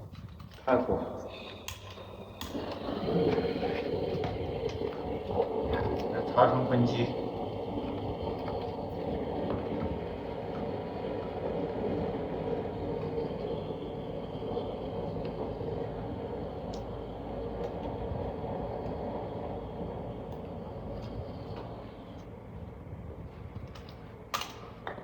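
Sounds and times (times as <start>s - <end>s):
traffic rumble echoing: 0.0s - 25.0s.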